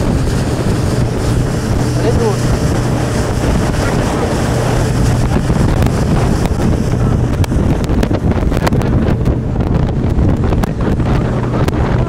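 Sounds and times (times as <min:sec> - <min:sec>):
boat engine drone: 0:00.0 - 0:12.0
wind buffeting microphone: 0:00.0 - 0:12.0.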